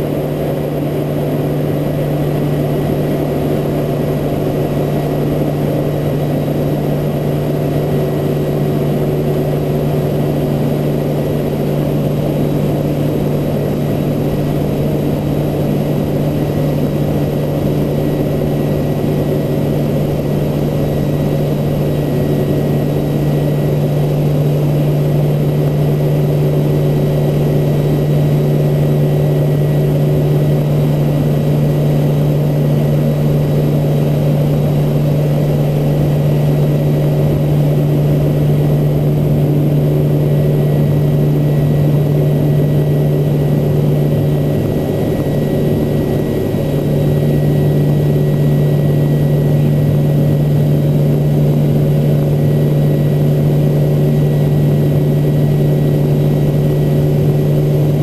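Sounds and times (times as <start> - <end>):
turboprop engines droning in flight: 0.0 - 58.0.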